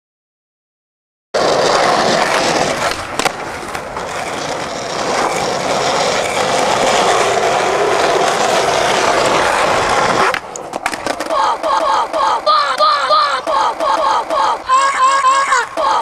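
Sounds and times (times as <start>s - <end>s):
skateboard wheels rolling on asphalt: 1.4s - 16.0s.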